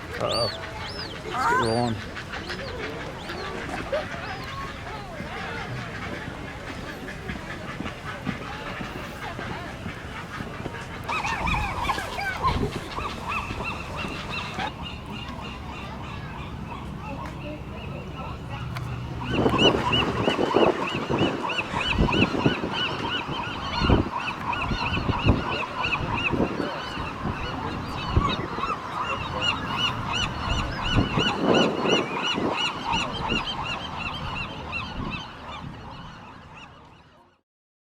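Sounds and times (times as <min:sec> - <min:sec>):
gulls calling: 0:00.0 - 0:37.4.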